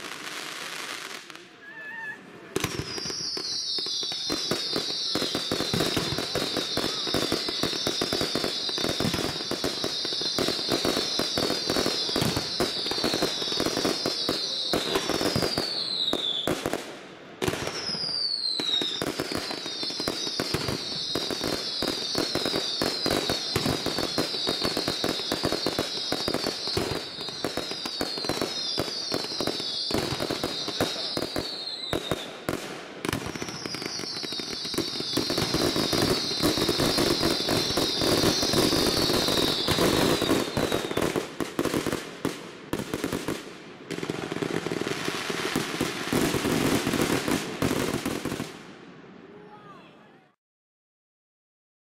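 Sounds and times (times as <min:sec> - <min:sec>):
fireworks cracks and bangs: 0:00.0 - 0:01.7, 0:02.4 - 0:48.8.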